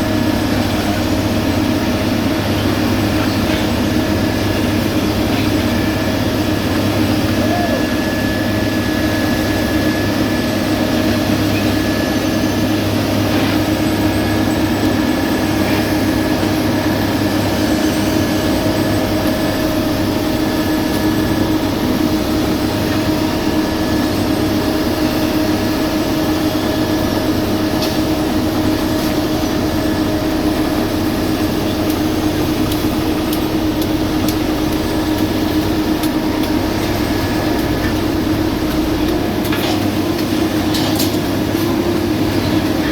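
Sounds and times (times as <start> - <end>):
diesel machinery engine drone: 0.0 - 42.9
steady machine whine: 0.0 - 42.9.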